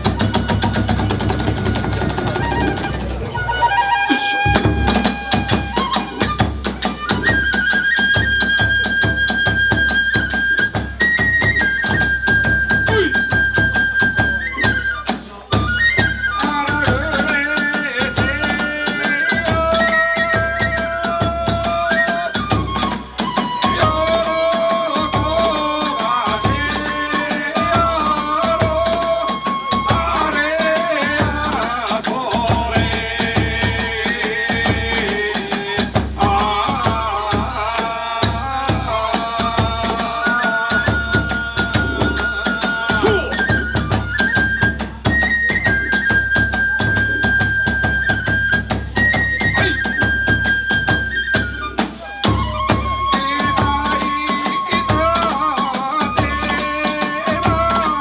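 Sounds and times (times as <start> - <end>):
bamboo flute playing: 0.0 - 33.4, 36.2 - 58.0
drums beating fast rhythm: 0.0 - 58.0.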